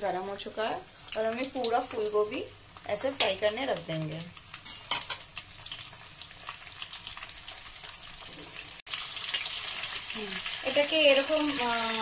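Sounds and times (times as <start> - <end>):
oil sizzling with crackling pops: 0.0 - 12.0.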